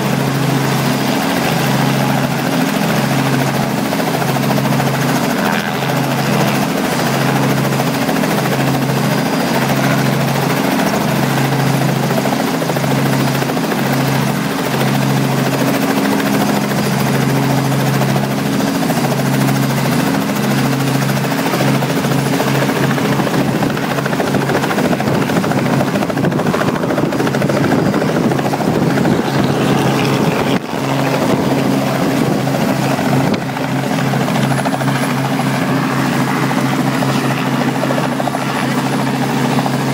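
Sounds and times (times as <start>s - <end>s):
helicopter engine and rotor drone: 0.0s - 39.9s
helicopter lifting off and flying: 0.0s - 39.9s.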